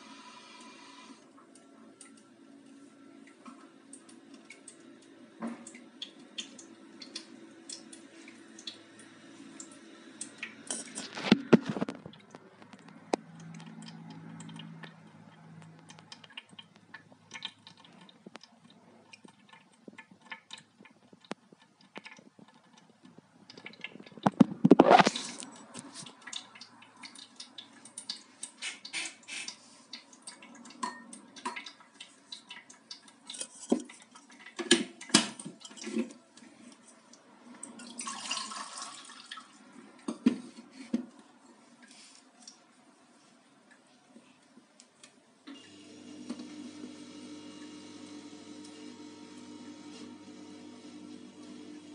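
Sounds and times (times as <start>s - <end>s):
water dripping: 0.0s - 40.2s, 41.1s - 45.6s.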